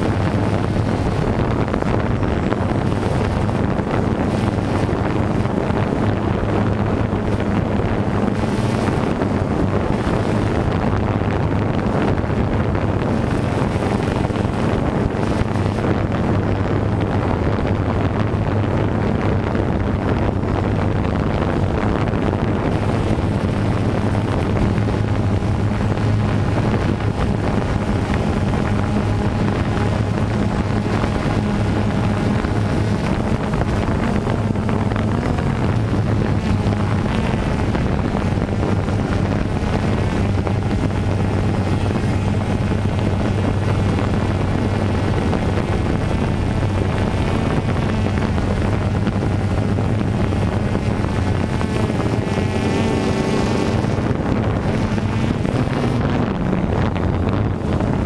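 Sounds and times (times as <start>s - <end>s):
drone propellers humming: 0.0s - 58.0s
wind buffeting microphone: 0.0s - 58.0s.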